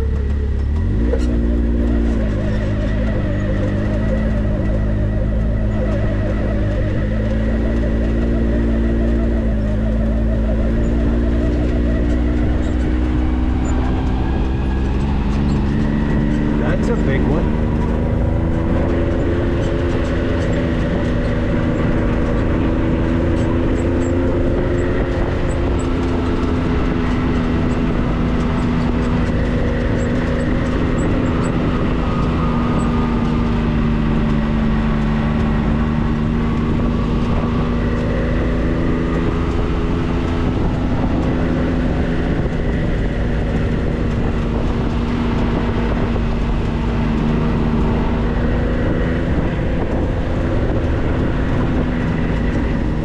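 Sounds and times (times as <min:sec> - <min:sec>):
road and tyre rumble: 0:00.0 - 0:53.0
vehicle engine drone: 0:00.0 - 0:53.0.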